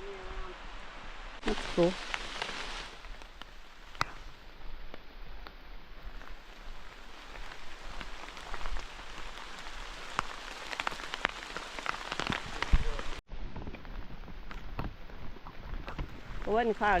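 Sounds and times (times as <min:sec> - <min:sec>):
raindrops ticking near microphone: 0:00.0 - 0:17.0.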